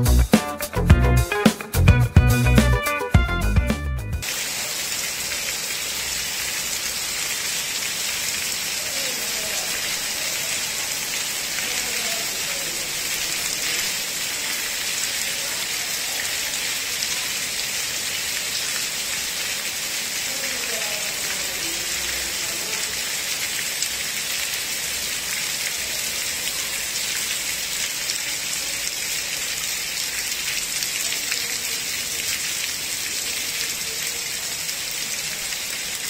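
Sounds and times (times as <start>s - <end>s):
rain falling on a flooded street: 4.2s - 36.0s.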